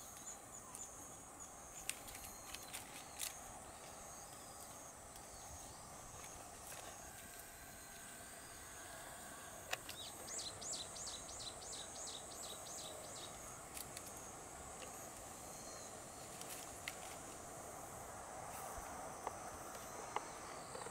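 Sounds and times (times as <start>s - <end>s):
steady background hiss: 0.0s - 20.9s.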